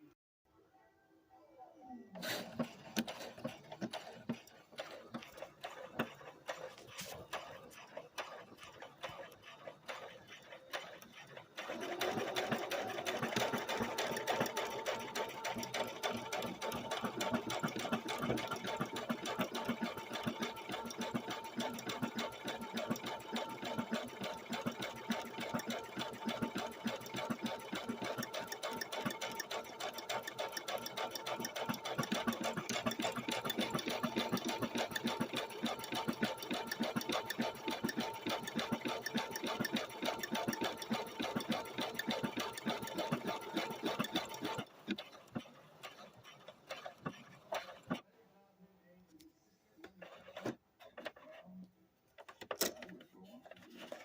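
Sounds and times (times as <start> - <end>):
sewing machine stitching: 2.1 - 48.0, 49.9 - 51.4, 52.2 - 54.0.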